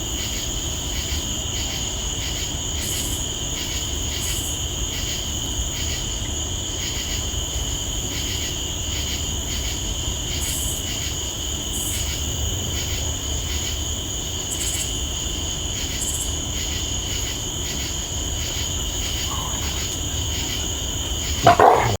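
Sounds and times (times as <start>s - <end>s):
insects chirring: 0.2s - 22.0s.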